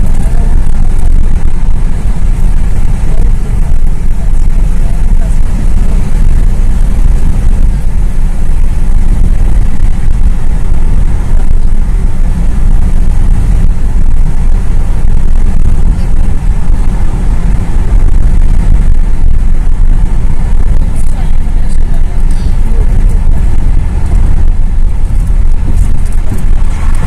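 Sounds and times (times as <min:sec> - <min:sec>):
car cabin road and engine rumble: 0:00.0 - 0:27.0.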